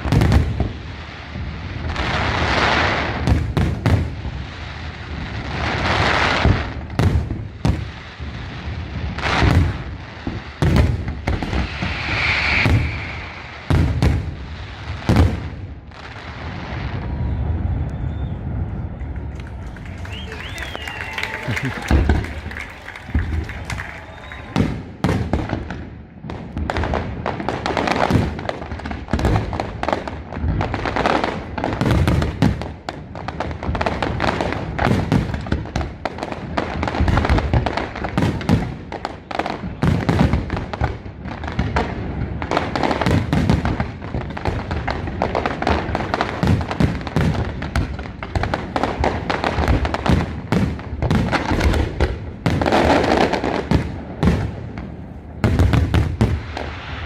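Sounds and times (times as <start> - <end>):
fireworks booming: 0.0 - 57.0.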